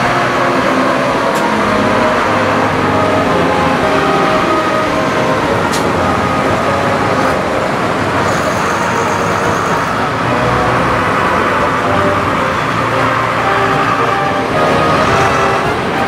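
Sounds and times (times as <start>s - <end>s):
tractor engines running: 0.0s - 16.0s.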